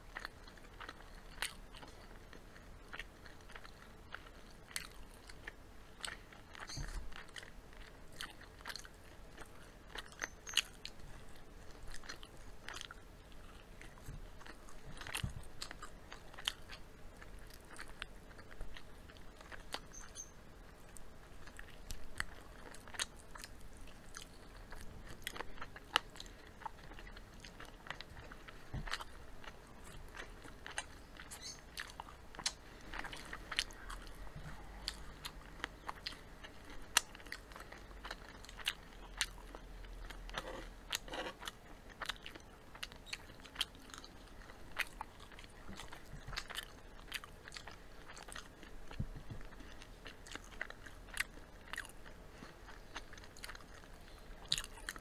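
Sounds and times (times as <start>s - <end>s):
people chewing crunchy food: 0.0s - 55.0s.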